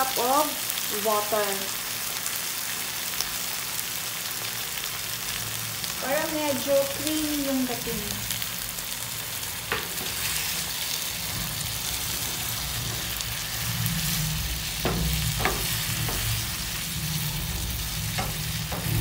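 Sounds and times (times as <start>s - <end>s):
vegetables sizzling in frying pan: 0.0s - 19.0s.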